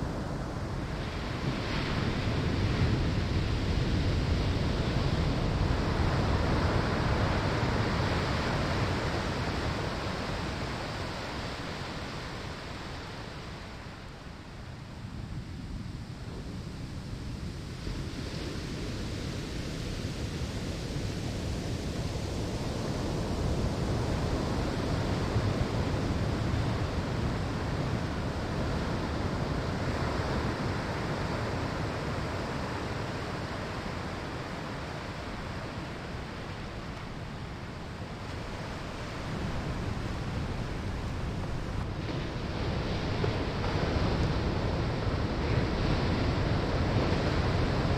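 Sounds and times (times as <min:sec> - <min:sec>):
ocean waves breaking on shore: 0:00.0 - 0:47.9.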